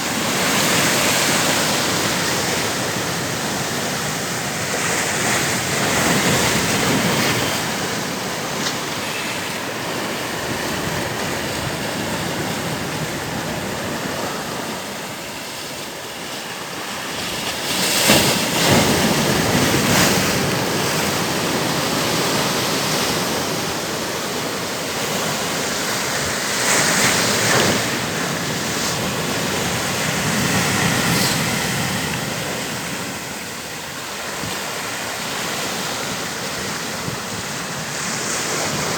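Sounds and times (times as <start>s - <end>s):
water rushing: 0.0s - 17.0s, 18.2s - 38.9s.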